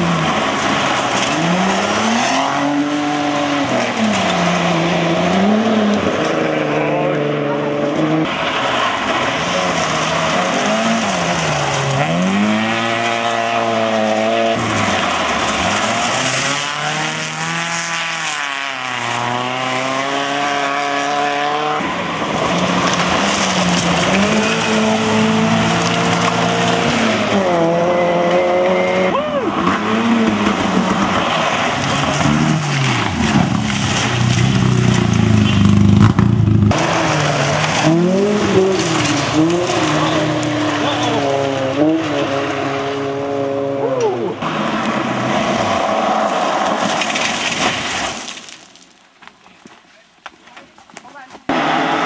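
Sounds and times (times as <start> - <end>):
rally car engines revving past: 0.0 - 48.2, 51.5 - 52.0.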